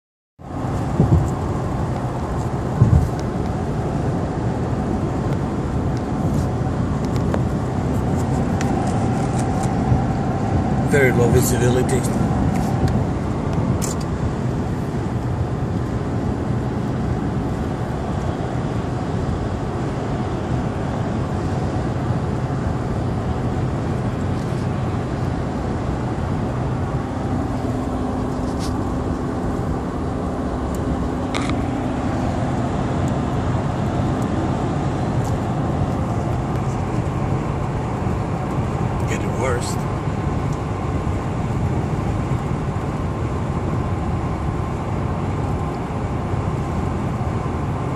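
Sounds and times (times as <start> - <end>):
road and engine drone: 0.4 - 47.9
low hum: 0.5 - 39.1.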